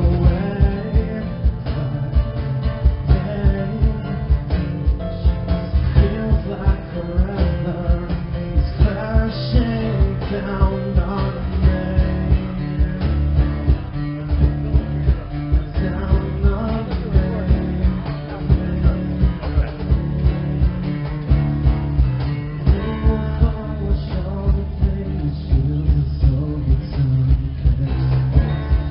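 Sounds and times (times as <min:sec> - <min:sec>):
acoustic guitars: 0:00.0 - 0:28.9
person singing: 0:00.0 - 0:28.9
steady beat: 0:00.0 - 0:28.9.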